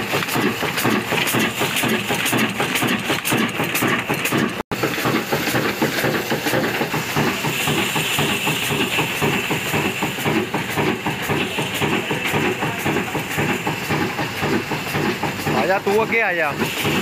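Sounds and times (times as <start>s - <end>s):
diesel engine running: 0.0s - 17.0s
engine hiss: 0.0s - 17.0s.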